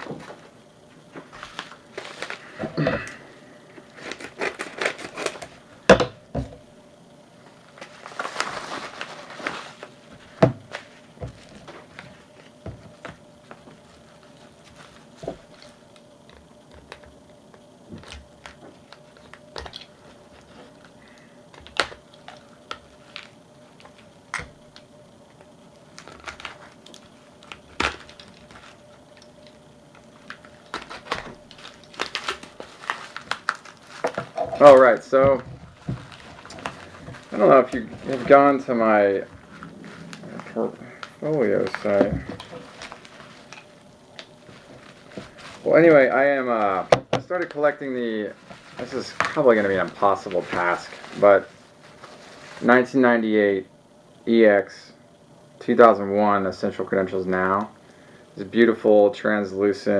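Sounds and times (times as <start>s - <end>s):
packaging crinkling and rustling: 0.0s - 3.2s, 3.8s - 6.6s, 7.4s - 52.9s.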